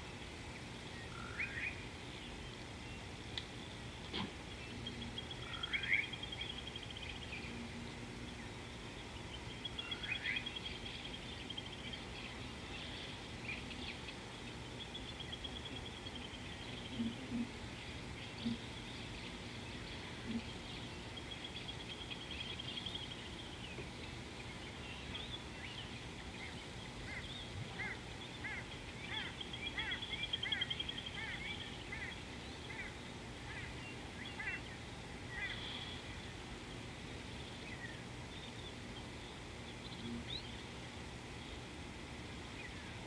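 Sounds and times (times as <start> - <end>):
steady background noise: 0.0 - 43.0.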